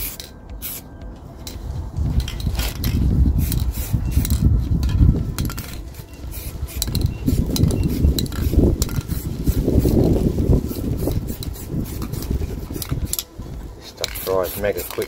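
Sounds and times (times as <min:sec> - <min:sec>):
spray can ball rattling: 0:00.0 - 0:00.8, 0:02.2 - 0:13.3, 0:14.0 - 0:15.0
wind rumble on microphone: 0:01.0 - 0:14.5.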